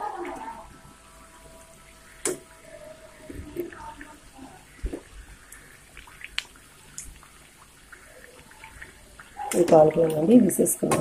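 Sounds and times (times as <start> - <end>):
oil sizzling and bubbling: 0.0 - 11.0.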